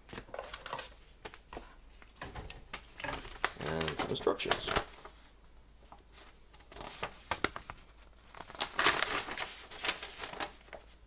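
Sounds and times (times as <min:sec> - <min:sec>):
paper rustling and crinkling: 0:00.0 - 0:05.3, 0:05.9 - 0:11.0.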